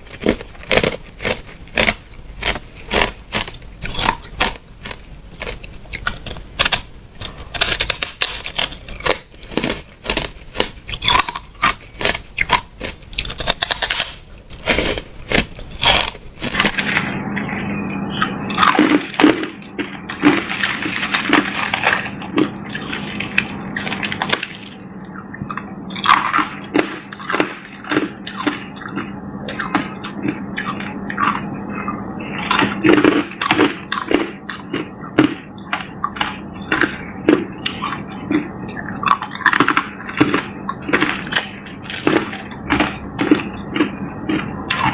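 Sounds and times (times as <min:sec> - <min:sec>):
ice crunching between teeth: 0:00.0 - 0:17.1, 0:18.5 - 0:24.8, 0:25.5 - 0:31.5, 0:32.3 - 0:44.9.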